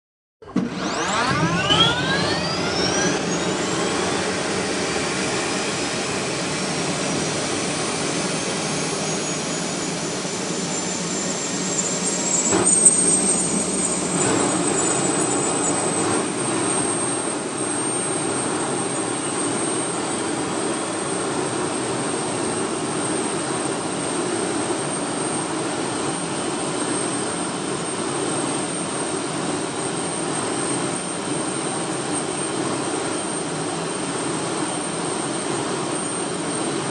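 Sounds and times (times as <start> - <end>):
jet engine whine and roar: 0.4 - 36.9.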